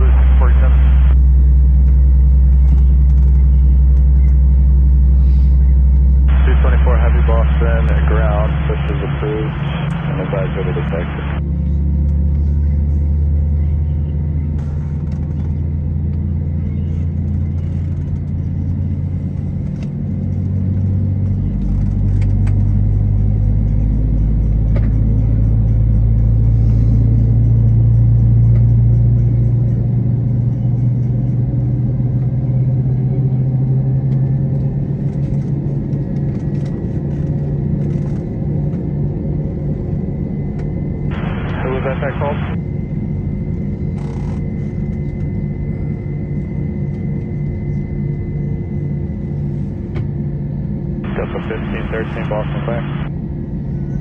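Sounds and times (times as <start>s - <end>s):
airliner cabin low hum: 0.0s - 54.0s.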